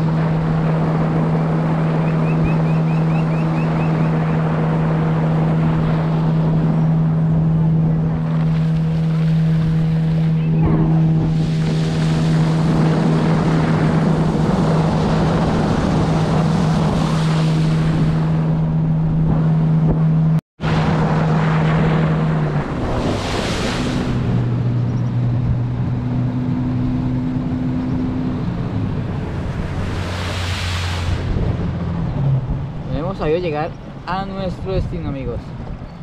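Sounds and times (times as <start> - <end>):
wind on microphone: 0.0 - 36.0.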